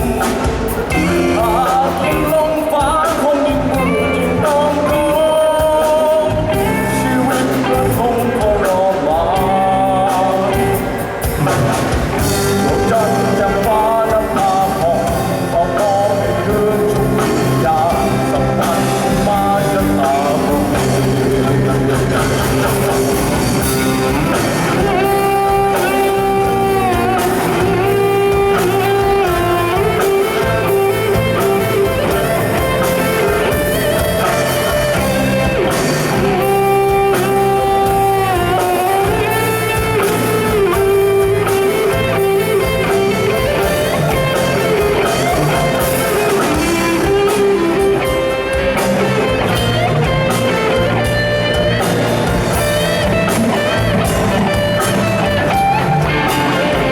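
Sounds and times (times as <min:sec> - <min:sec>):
guitar melody notes: 0:00.0 - 0:56.9
rock band playing: 0:00.0 - 0:56.9
steady bass line: 0:00.0 - 0:56.9.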